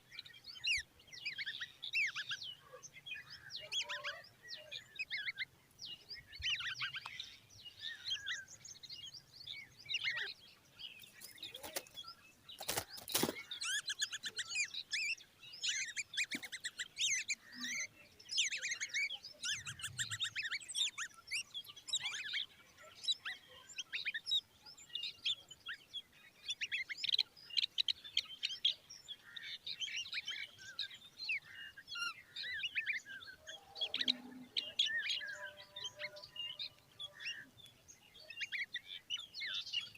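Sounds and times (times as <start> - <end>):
fledglings chirping: 0.2 - 39.9.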